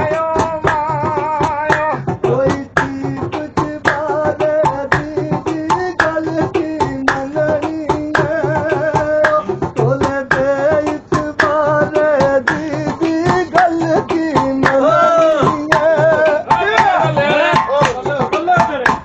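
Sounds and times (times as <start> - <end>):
hand drum strikes: 0.0 - 19.0.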